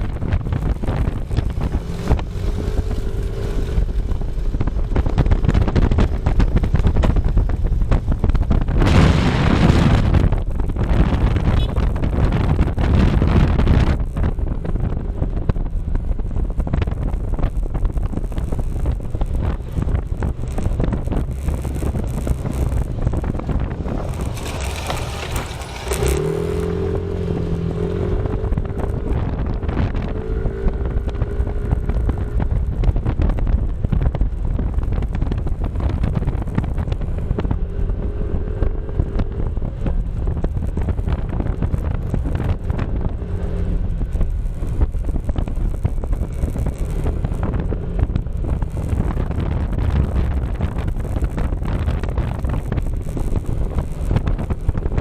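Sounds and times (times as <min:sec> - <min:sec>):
moving vehicle rumble: 0:00.0 - 0:55.0
wind buffeting microphone: 0:00.0 - 0:55.0.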